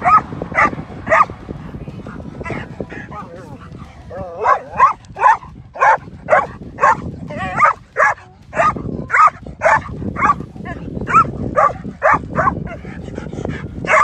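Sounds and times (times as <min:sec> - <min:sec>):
young dog barking and yelping: 0:00.0 - 0:01.4, 0:02.0 - 0:14.0.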